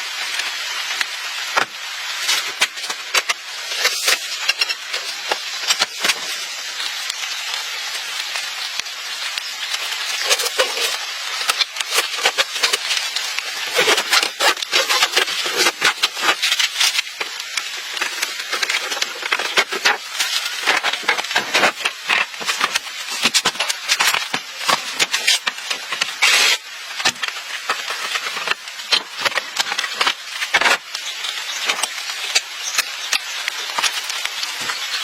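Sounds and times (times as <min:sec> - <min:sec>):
steady hiss: 0:00.0 - 0:35.0
scraping and rubbing: 0:01.4 - 0:06.6, 0:10.0 - 0:35.0.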